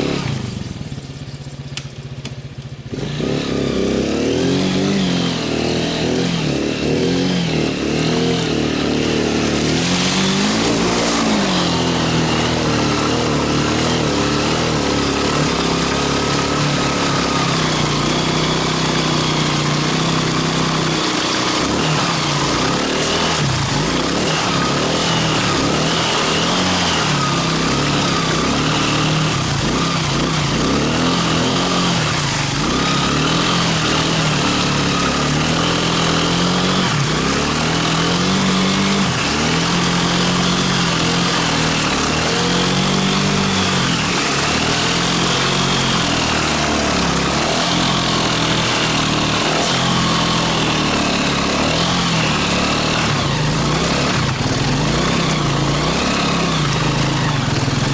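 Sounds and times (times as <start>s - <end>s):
quad bike engine revving: 0.0s - 57.9s.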